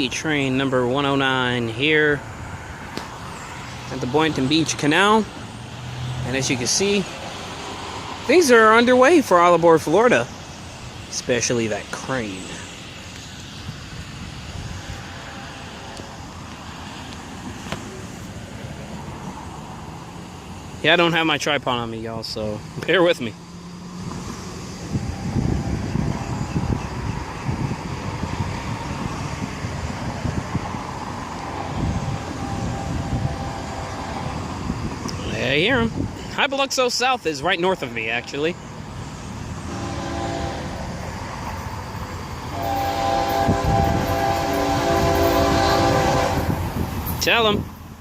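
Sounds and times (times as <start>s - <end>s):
road traffic rumble: 0.0s - 48.0s
wind: 0.0s - 48.0s.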